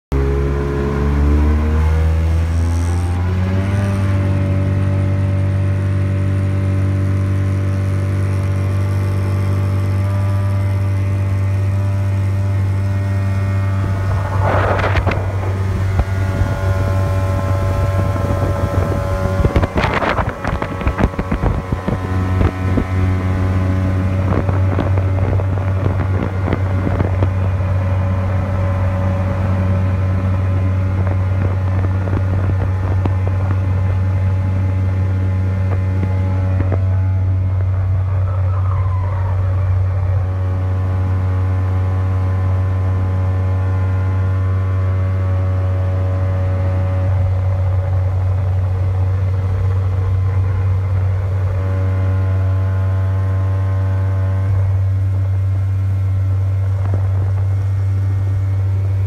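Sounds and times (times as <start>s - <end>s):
motorboat engine: 0.1s - 59.0s.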